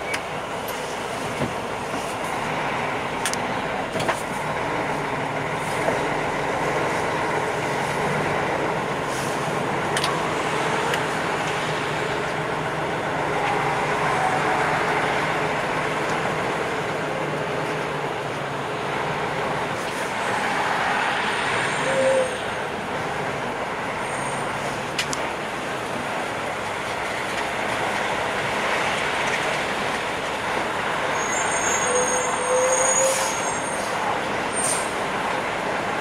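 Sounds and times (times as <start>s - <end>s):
truck engine and road noise: 0.0s - 36.0s.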